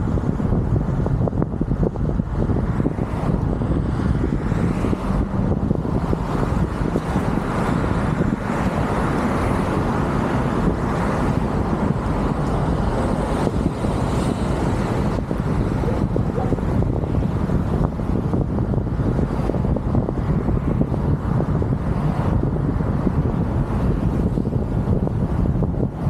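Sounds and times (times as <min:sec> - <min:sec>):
other traffic: 0:00.0 - 0:26.0
road and tyre noise: 0:00.0 - 0:26.0
wind rumbling on microphone: 0:00.0 - 0:26.0.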